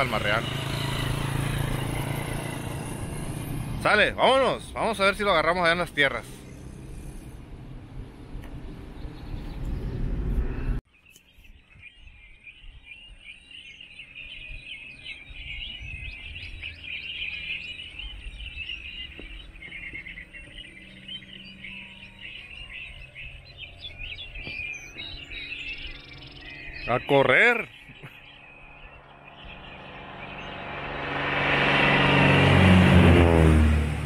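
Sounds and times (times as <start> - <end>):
small birds chirping: 0.0 - 7.5, 8.4 - 31.2
car engine and road noise: 0.0 - 10.8, 14.6 - 34.0.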